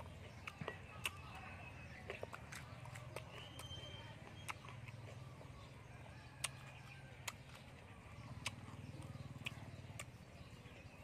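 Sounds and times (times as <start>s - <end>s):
mouth clicks and smacks: 0.0s - 5.8s, 6.4s - 11.0s
crunchy chewing of fried fish: 0.0s - 11.0s.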